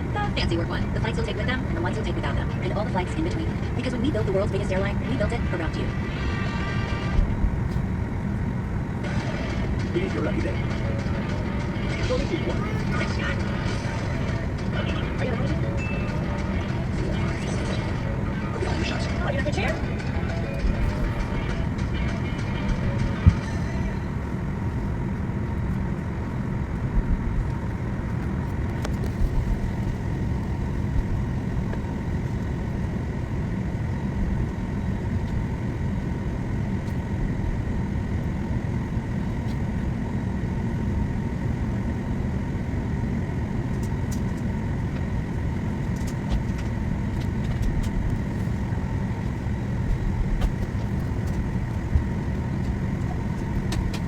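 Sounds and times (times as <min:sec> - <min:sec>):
airliner cabin rumble and hum: 0:00.0 - 0:54.0
faint high whine: 0:00.0 - 0:54.0.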